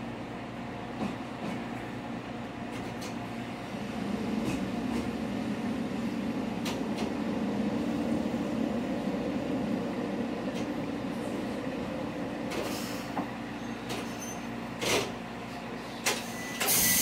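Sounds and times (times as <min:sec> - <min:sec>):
railcar engine drone: 0:00.0 - 0:17.0.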